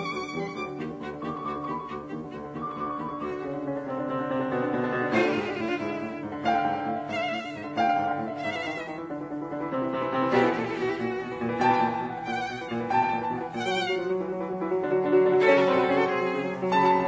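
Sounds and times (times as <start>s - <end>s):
piano: 0.0s - 17.0s.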